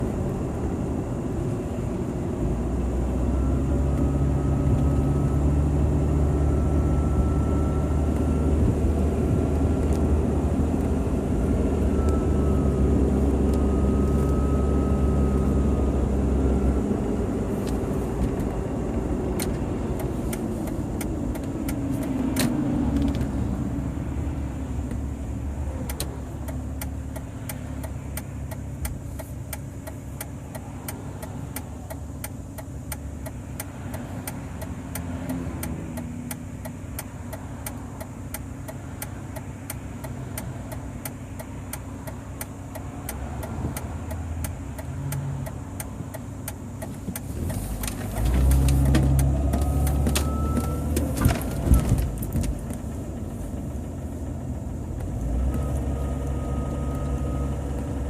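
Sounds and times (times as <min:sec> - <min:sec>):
car engine running while driving: 0:00.0 - 0:58.0
road noise: 0:00.0 - 0:58.0.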